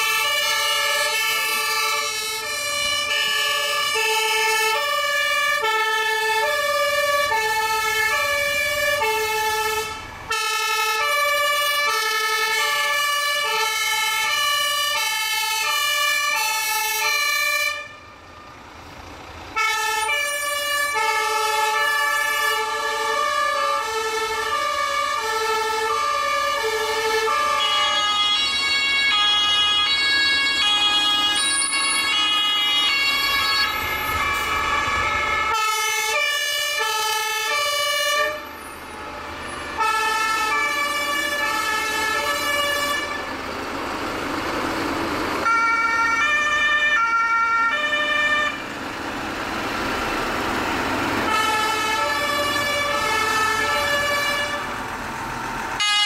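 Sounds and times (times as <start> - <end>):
truck engines: 0.0 - 56.0
two-tone sirens: 0.0 - 56.0.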